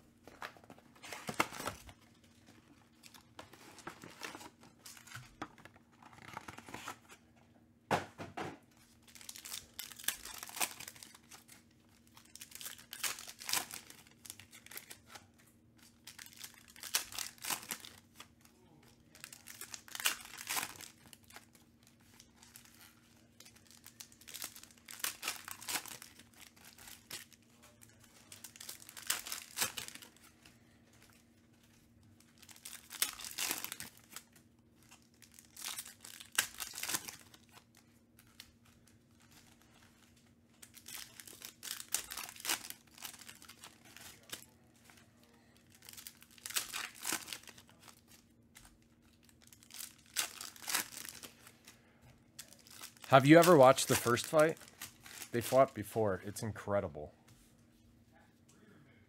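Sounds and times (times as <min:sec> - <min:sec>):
foil wrappers tearing and crinkling: 0:00.3 - 0:02.1, 0:08.8 - 0:51.7, 0:52.4 - 0:55.8.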